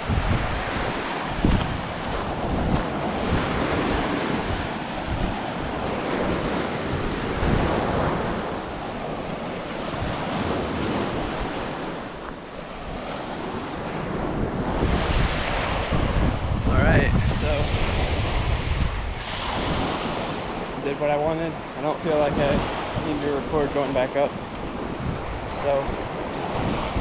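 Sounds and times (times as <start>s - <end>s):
wind gusting on microphone: 0.0s - 27.0s.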